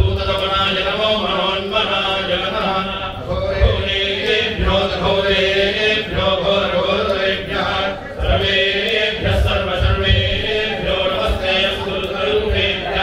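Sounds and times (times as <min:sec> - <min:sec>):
men chanting: 0:00.0 - 0:13.0.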